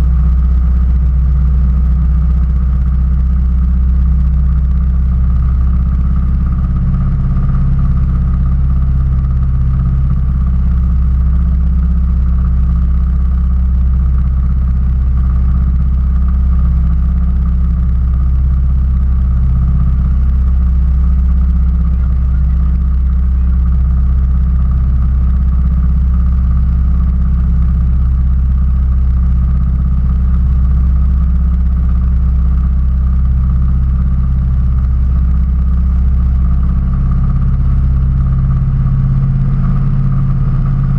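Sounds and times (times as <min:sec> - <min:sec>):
rail motorcar engine idling: 0:00.0 - 0:40.9.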